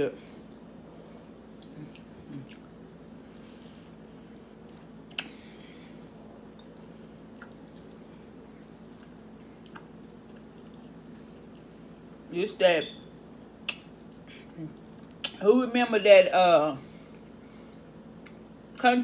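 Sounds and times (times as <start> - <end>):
steady low hum: 0.0 - 19.0
soft chewing: 0.4 - 12.3, 13.6 - 15.4, 16.9 - 18.8.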